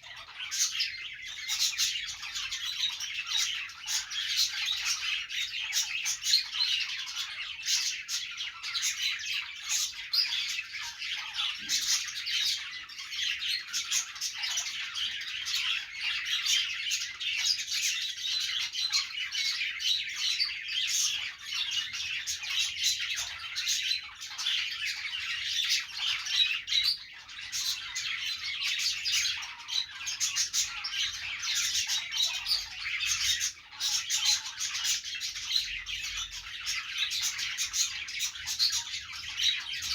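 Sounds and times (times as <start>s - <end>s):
budgies chirping and squawking: 0.0s - 39.9s.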